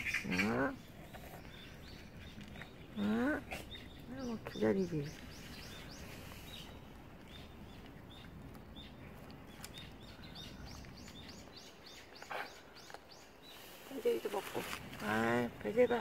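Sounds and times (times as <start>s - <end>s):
low outdoor noise: 0.0s - 16.0s
small birds chirping: 0.0s - 16.0s.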